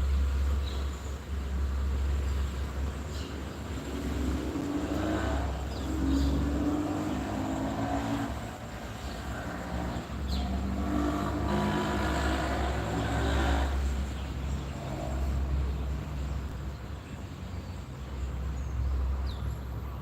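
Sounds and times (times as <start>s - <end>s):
engine low rumble: 0.0s - 20.0s.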